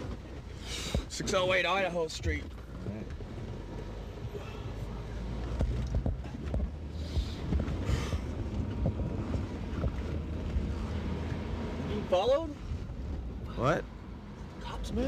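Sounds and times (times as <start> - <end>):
taxi engine and road rumble: 0.0 - 15.0.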